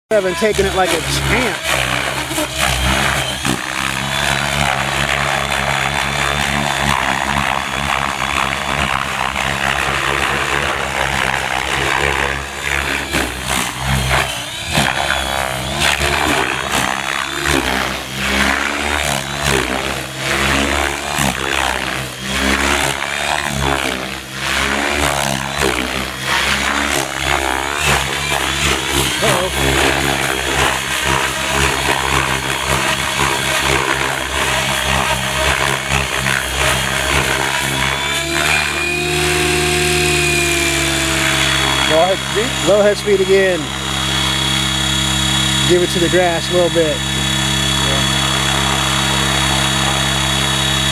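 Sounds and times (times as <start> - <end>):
model helicopter rotor humming: 0.1 - 50.9.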